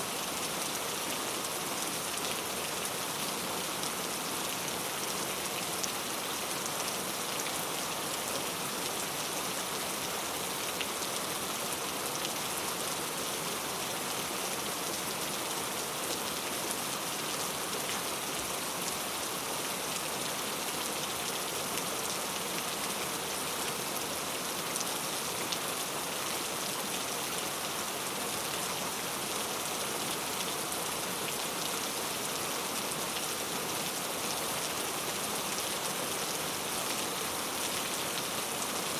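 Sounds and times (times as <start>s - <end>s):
rain on a thatched roof: 0.0s - 38.9s.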